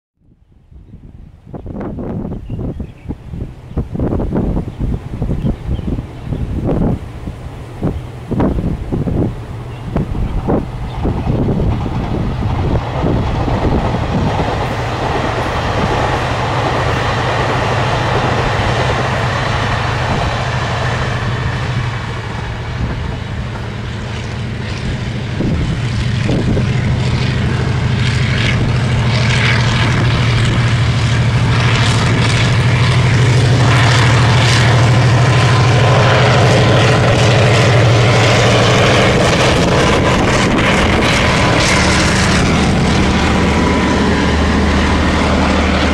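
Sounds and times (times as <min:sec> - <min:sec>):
locomotive engine drone: 0:00.2 - 0:45.9
train clattering over track: 0:03.8 - 0:45.9.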